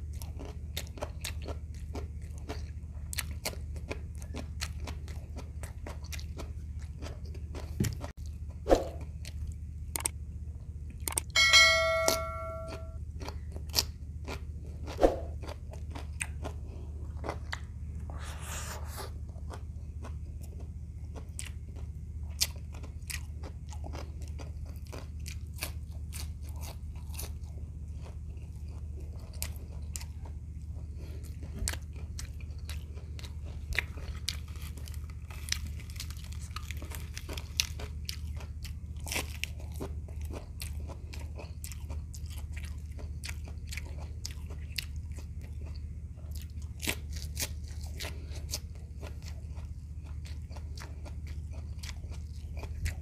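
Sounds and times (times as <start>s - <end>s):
person chewing crunchy food: 0.0s - 11.4s, 12.7s - 53.0s
steady low hum: 0.0s - 53.0s.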